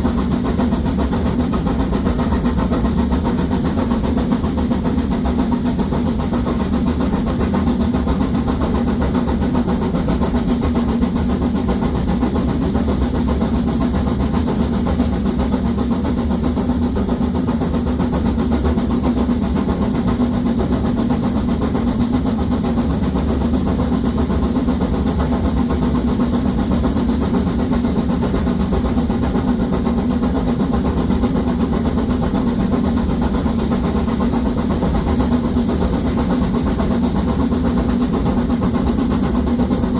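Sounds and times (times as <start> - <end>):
steam locomotive exhaust beat: 0.0 - 39.9.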